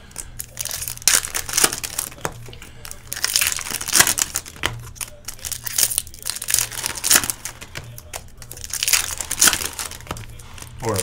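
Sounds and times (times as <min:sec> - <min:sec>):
card pack wrappers crinkling: 0:00.0 - 0:11.0.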